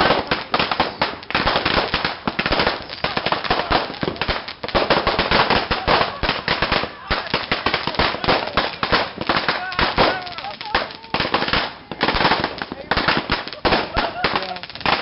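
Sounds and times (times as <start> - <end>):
firecrackers going off: 0.0 - 15.0.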